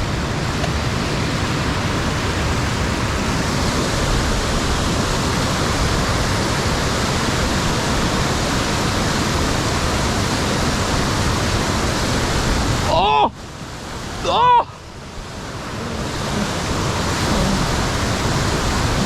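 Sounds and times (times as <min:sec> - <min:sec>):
creek rapids rushing: 0:00.0 - 0:19.0.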